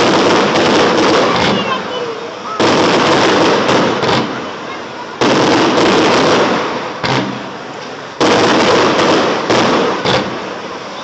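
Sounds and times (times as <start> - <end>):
firework shells bursting: 0.0 - 10.7
firework crackle and rumble: 0.0 - 11.0.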